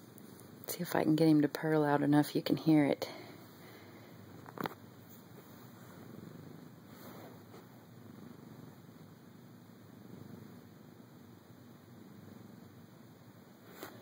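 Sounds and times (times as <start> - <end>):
cat purring: 0.1 - 14.0.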